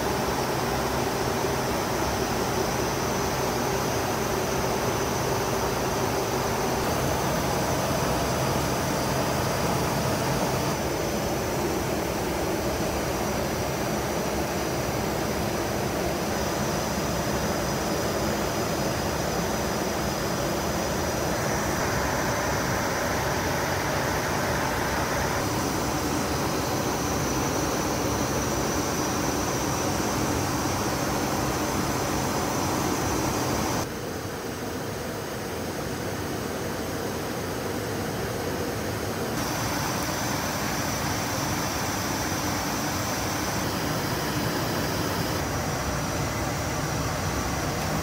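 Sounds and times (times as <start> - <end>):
jet cockpit airflow and engine: 0.0 - 48.0.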